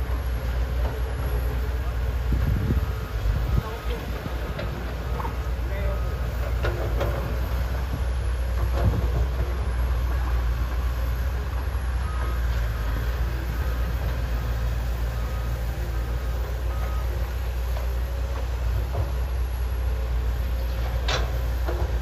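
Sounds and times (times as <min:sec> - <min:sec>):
excavator diesel engines rumbling: 0:00.0 - 0:22.0.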